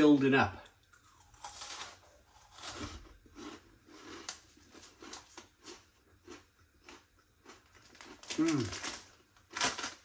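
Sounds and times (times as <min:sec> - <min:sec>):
person chewing crunchy snacks: 0:00.8 - 0:10.0.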